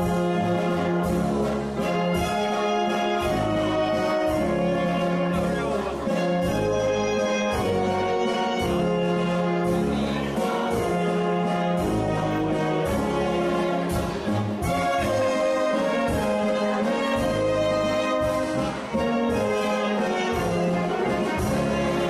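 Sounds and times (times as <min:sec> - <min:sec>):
brass band playing dance music: 0:00.0 - 0:22.0.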